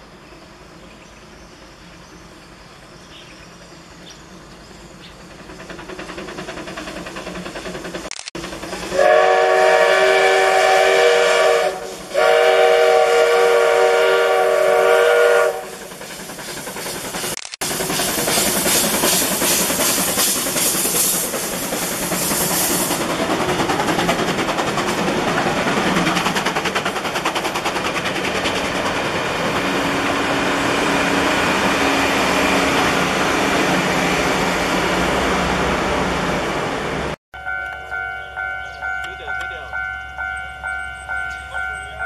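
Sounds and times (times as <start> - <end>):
locomotive engine drone: 0.0 - 42.0
steam locomotive chuffing: 0.0 - 42.0
train wheels on rails: 0.0 - 42.0.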